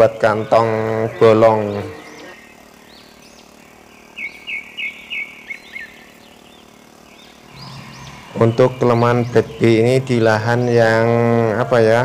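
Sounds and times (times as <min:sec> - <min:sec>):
small bird chirping: 0:00.5 - 0:11.0.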